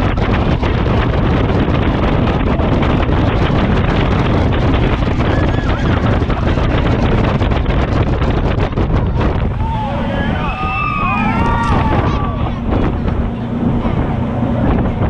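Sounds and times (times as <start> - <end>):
jet boat engines at speed: 0.0 - 15.0
water rushing under boat: 0.0 - 15.0
wind buffeting microphone: 0.0 - 15.0.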